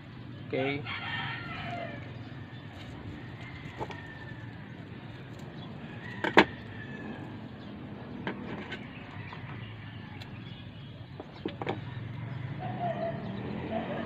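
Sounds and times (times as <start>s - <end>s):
low outdoor hum: 0.0s - 14.0s.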